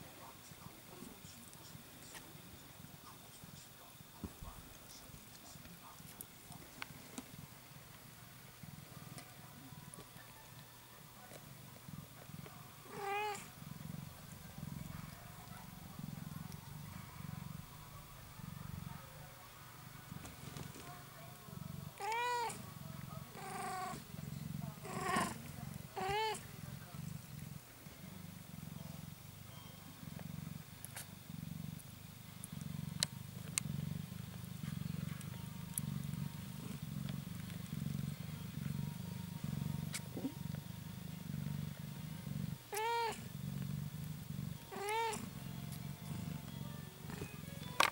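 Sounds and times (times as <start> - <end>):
cat purring: 0.0 - 47.9.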